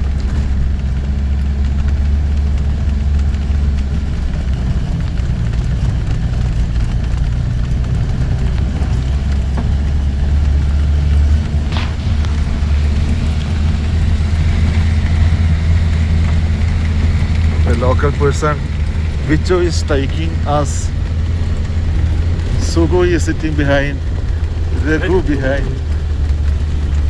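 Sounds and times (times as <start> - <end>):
engine rumbling inside cabin: 0.0 - 27.0.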